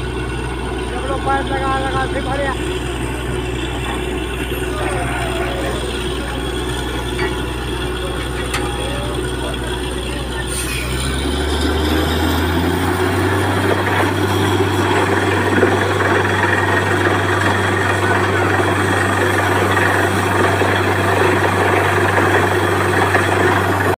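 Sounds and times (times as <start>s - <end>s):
drilling rig engine drone: 0.0s - 24.0s.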